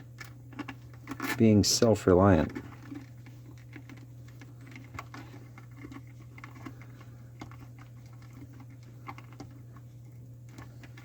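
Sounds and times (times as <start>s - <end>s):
clicks and rustles of wires: 0.0s - 11.0s
steady low hum: 0.0s - 11.0s.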